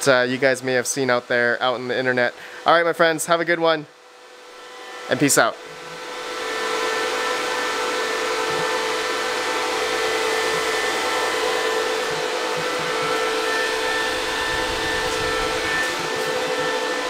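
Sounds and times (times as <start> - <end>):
cooling fans whining: 0.0 - 17.0.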